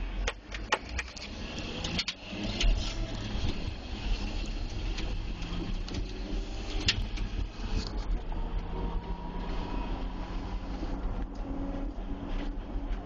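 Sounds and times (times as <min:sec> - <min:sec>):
diesel engine running: 0:00.0 - 0:13.0
plow pushing snow and water: 0:00.0 - 0:13.0.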